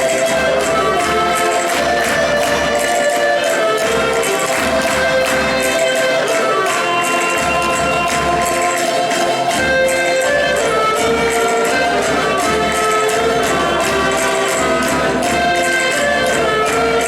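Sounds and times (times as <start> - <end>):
percussion beat: 0.0 - 17.0.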